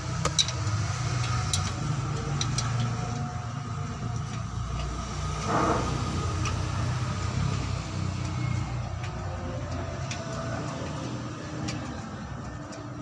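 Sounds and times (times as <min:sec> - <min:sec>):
hand tools clicking and tapping: 0:00.0 - 0:05.6, 0:06.2 - 0:13.0.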